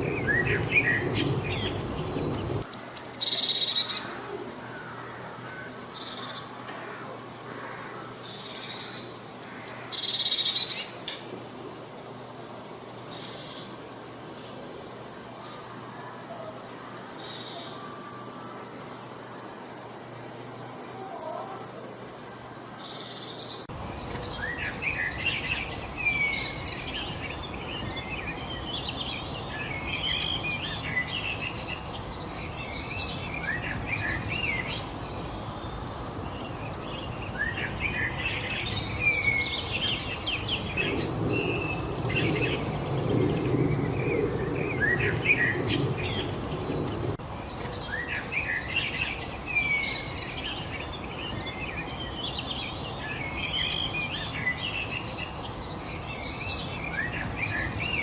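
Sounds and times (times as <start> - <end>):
outdoor hiss: 0.0 - 58.0
small birds chirping: 0.0 - 58.0.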